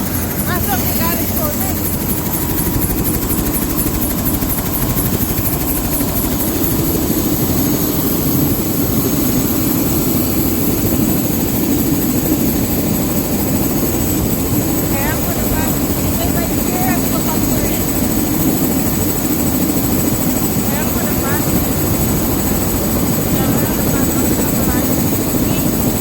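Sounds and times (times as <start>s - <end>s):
helicopter engine and rotor: 0.0s - 26.0s.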